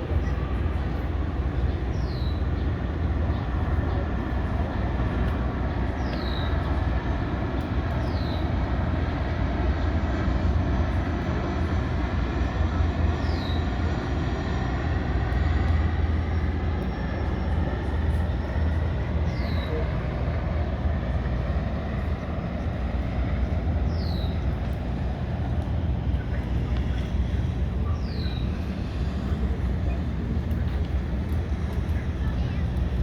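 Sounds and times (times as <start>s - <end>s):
ferry engines rumbling: 0.0s - 33.0s.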